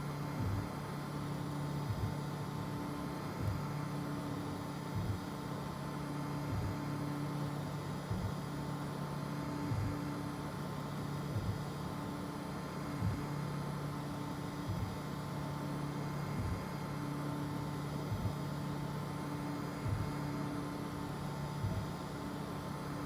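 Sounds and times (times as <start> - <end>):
fan hum and hiss: 0.0 - 23.0.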